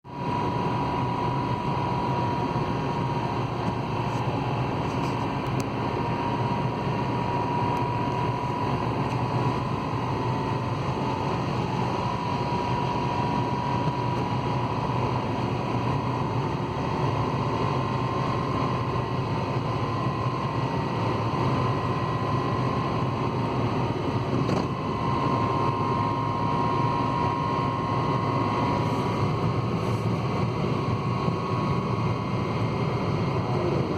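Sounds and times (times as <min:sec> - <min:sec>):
car engine droning: 0:00.1 - 0:33.9.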